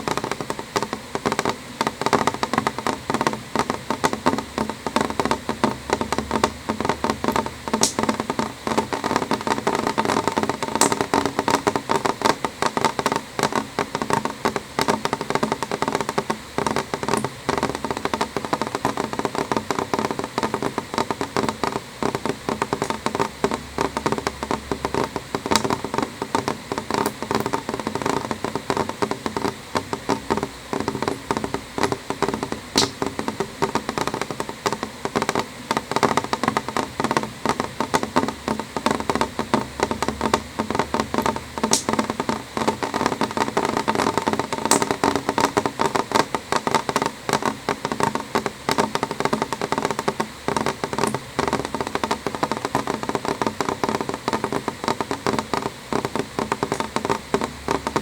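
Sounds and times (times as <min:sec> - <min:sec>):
rain tapping on window glass: 0:00.0 - 0:58.0.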